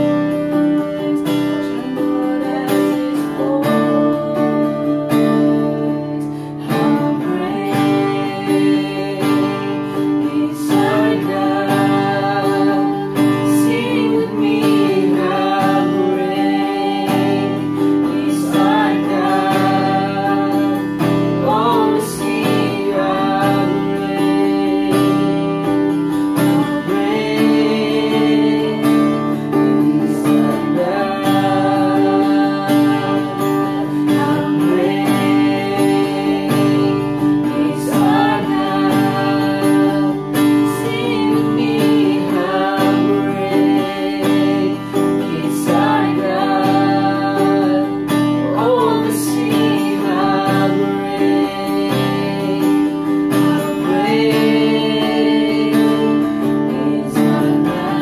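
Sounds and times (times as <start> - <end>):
strummed acoustic guitar: 0.0 - 58.0
woman and man singing: 0.0 - 58.0.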